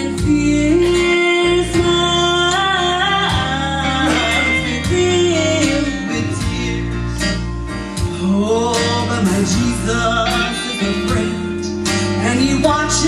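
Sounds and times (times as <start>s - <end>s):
vocal group singing: 0.0s - 7.2s, 8.2s - 13.0s
country-style guitar: 0.0s - 13.0s.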